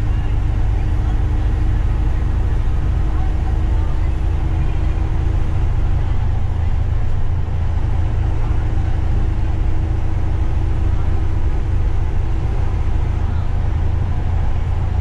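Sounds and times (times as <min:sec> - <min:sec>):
coach engine drone: 0:00.0 - 0:15.0
road rumble: 0:00.0 - 0:15.0.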